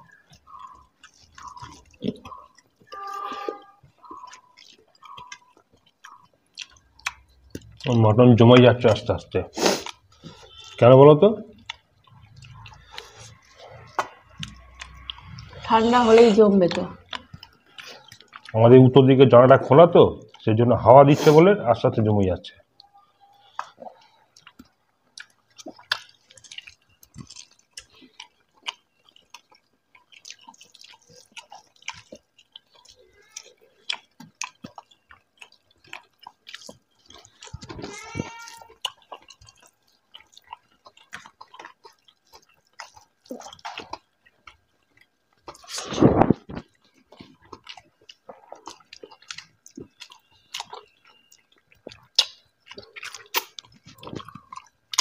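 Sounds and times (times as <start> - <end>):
wet chewing and lip smacks: 0.0 - 10.8, 11.4 - 19.1, 20.2 - 20.6, 22.7 - 55.0.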